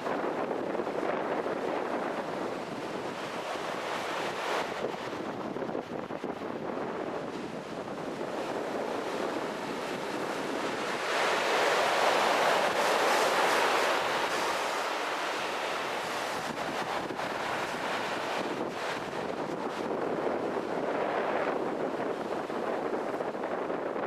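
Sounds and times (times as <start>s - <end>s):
ocean surf breaking on shore: 0.0s - 24.0s
wind buffeting microphone: 0.0s - 24.0s.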